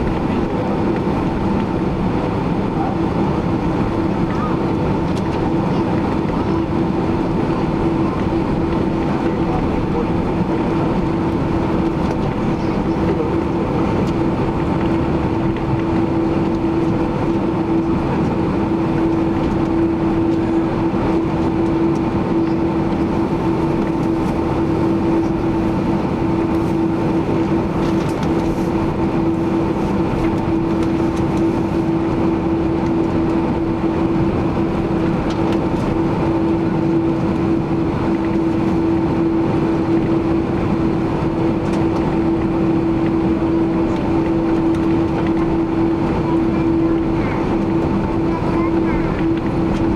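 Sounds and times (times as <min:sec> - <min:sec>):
jet engines heard inside cabin: 0:00.0 - 0:49.9.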